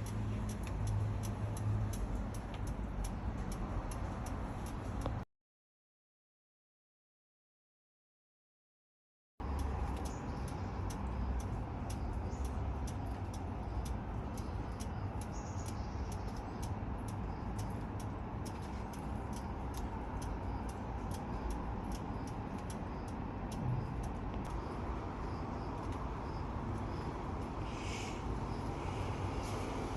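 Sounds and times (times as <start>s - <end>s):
light sharp ticks: 0.0s - 5.2s, 9.4s - 29.9s.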